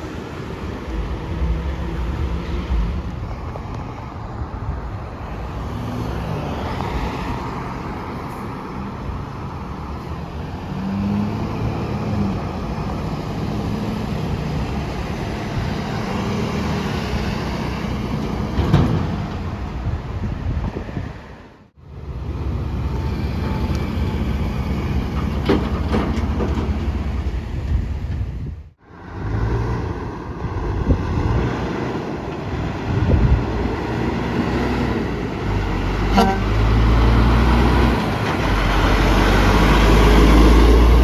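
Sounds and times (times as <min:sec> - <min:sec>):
traffic noise: 0:00.0 - 0:41.0
truck diesel engines accelerating: 0:00.0 - 0:41.0.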